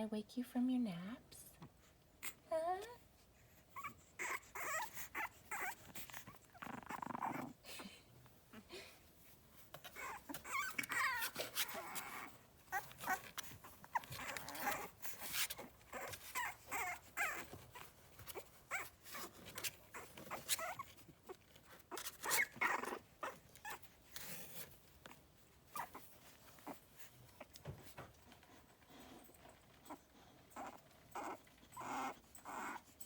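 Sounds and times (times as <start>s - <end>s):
puppies whimpering and squeaking: 2.2s - 33.0s.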